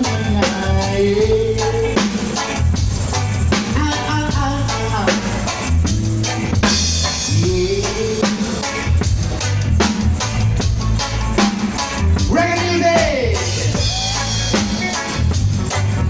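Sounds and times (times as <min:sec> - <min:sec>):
bass line: 0:00.0 - 0:16.0
drum kit beat: 0:00.0 - 0:16.0
reggae band playing: 0:00.0 - 0:16.0.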